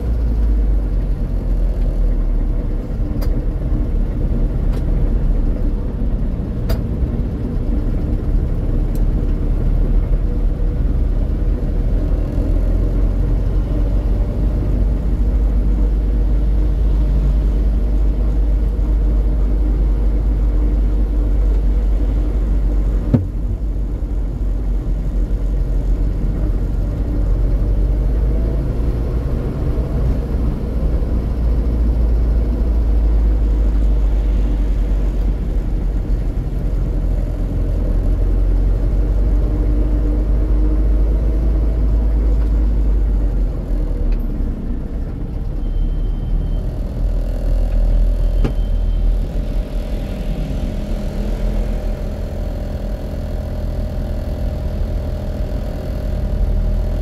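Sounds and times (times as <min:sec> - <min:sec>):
vehicle road and wind rumble: 0:00.0 - 0:57.0.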